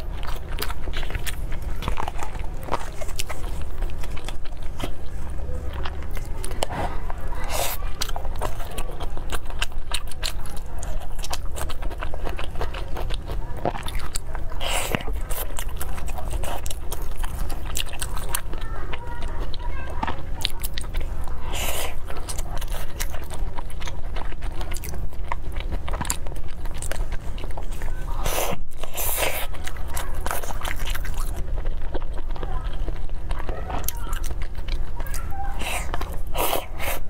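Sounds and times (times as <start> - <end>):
person chewing with wet mouth clicks: 0.0 - 37.0.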